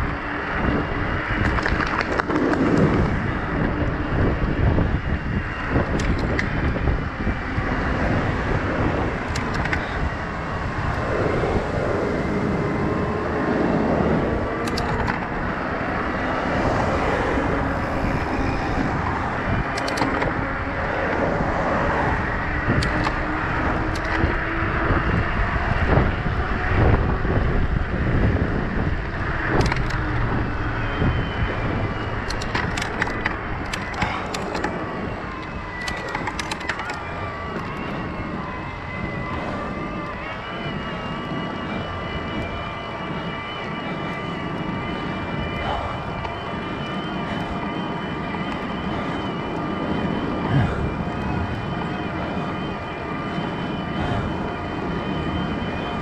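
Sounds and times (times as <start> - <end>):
bike clicks and rattles: 0.0 - 56.0
tyre noise on pavement: 0.0 - 56.0
wind rushing: 0.0 - 56.0.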